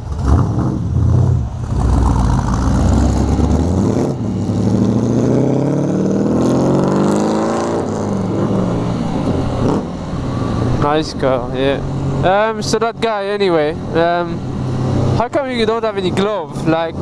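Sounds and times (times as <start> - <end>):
vehicle engine accelerating: 0.0 - 17.0.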